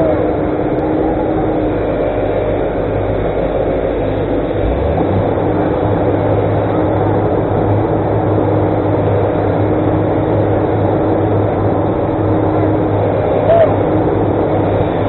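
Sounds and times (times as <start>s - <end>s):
diesel engine humming: 0.0s - 15.0s
faint steady whine: 0.0s - 15.0s.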